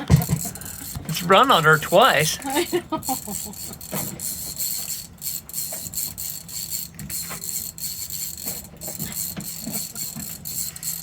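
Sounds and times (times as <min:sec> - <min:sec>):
fishing reel ratcheting: 0:00.0 - 0:11.0
steady low hum: 0:00.0 - 0:11.0.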